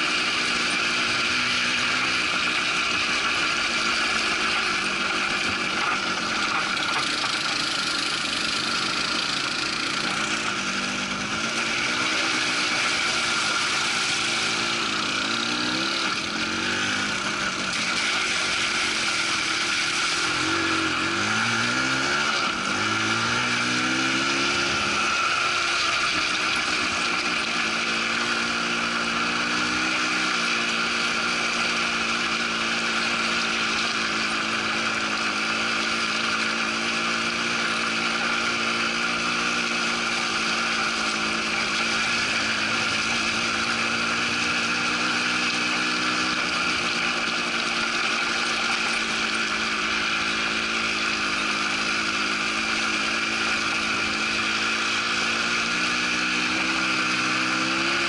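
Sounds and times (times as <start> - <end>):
quad bike engine running: 0.0 - 58.0
wind: 0.0 - 58.0.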